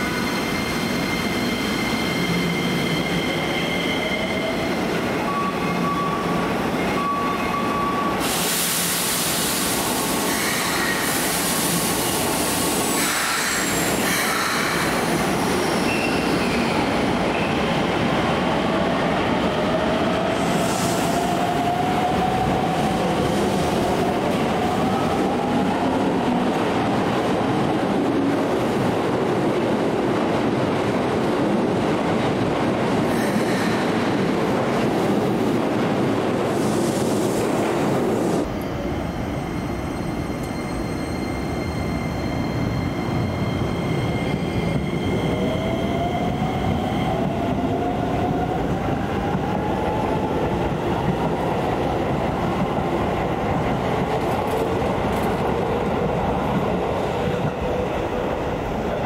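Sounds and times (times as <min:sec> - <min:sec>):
subway train rumble: 0:00.0 - 0:59.0
train passing rush: 0:07.8 - 0:59.0.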